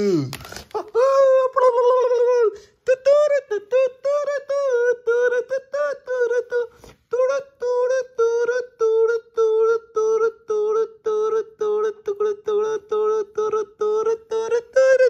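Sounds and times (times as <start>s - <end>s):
synthetic voice chanting: 0.0s - 15.0s.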